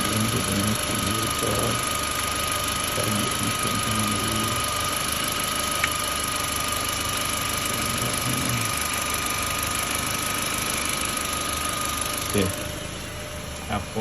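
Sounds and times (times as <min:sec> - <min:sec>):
car engine idling: 0:00.0 - 0:14.0
high whine: 0:00.0 - 0:14.0.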